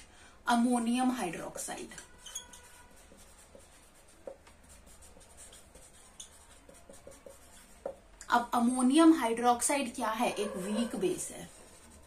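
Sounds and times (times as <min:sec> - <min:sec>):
marker pen writing on whiteboard: 0:00.8 - 0:12.0.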